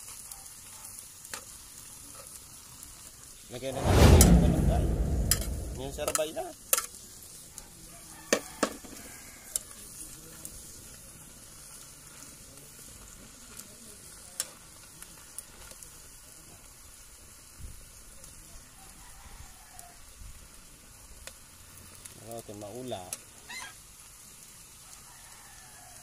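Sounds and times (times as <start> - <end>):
vegetables sizzling in a wok: 0.0 - 3.7, 6.5 - 26.0.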